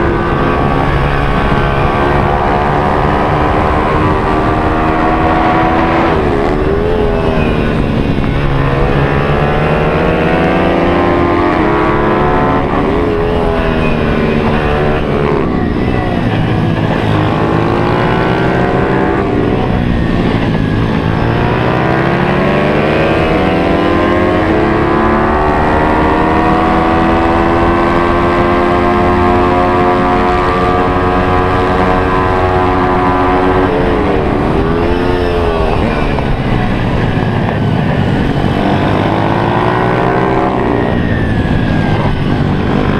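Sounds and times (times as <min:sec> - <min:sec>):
motorbike engine revving: 0:00.0 - 0:42.9.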